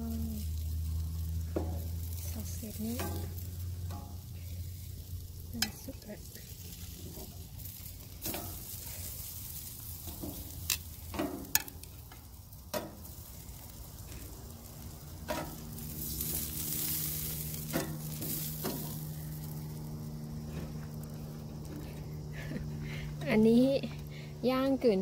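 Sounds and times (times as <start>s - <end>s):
low steady hum: 0.0s - 25.0s
meat sizzling on grill: 0.0s - 25.0s.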